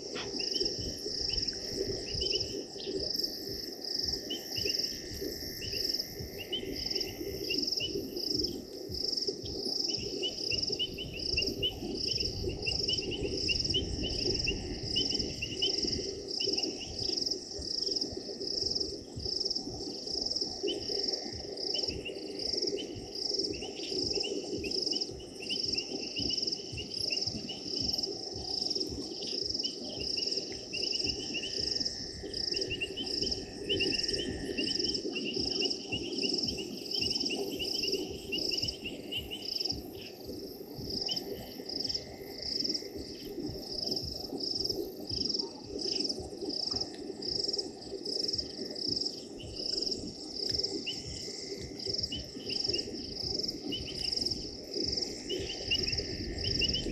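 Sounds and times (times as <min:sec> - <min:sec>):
crickets chirring: 0:00.0 - 0:56.9
insects trilling rapidly: 0:00.0 - 0:56.9.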